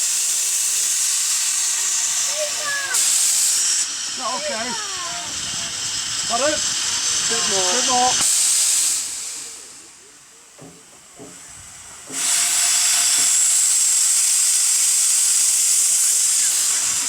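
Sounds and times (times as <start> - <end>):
locomotive air venting hiss: 0.0 - 17.0.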